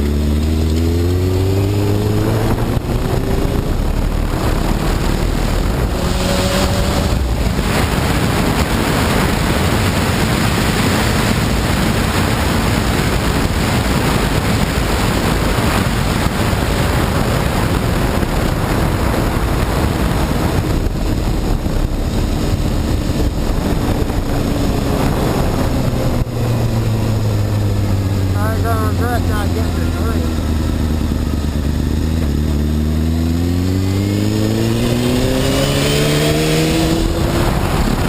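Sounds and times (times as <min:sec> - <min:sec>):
motorcycle engine running: 0:00.0 - 0:38.0
wind rushing over microphone: 0:00.0 - 0:38.0.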